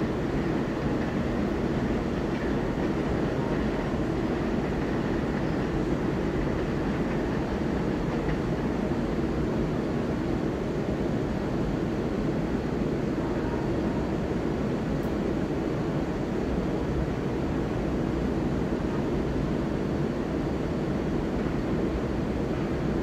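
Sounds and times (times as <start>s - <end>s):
train rumbling along tracks: 0.0s - 23.0s.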